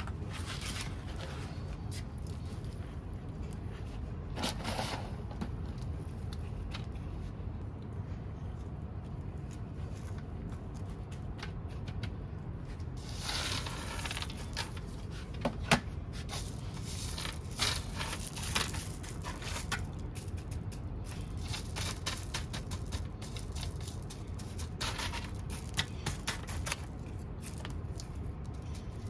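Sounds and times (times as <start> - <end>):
crackling and rustling handling noise: 0.0 - 29.0
steady low hum: 0.0 - 29.0.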